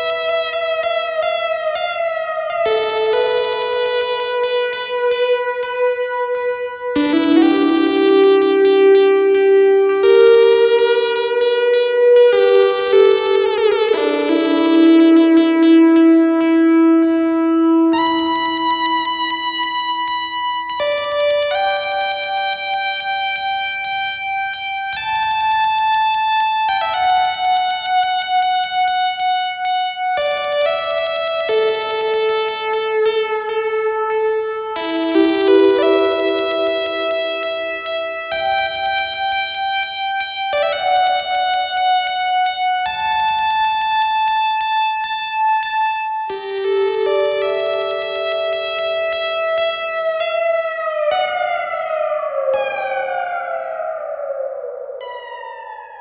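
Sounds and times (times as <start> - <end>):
synthesizer playing held notes: 0.0 - 1.4, 2.6 - 33.2, 34.7 - 45.2, 46.1 - 52.6.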